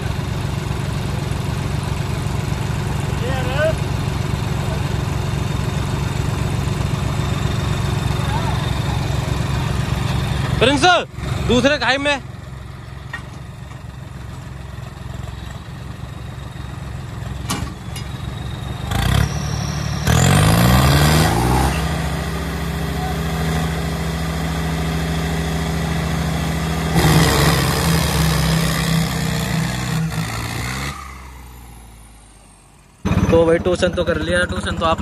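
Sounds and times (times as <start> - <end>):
diesel tractor engines revving: 0.0 - 35.0.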